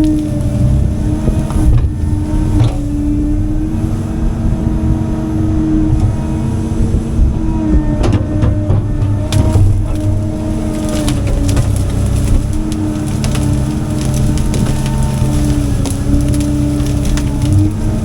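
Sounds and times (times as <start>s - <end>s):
excavator engine rumbling: 0.0s - 18.0s
hydraulic whine: 0.0s - 18.0s.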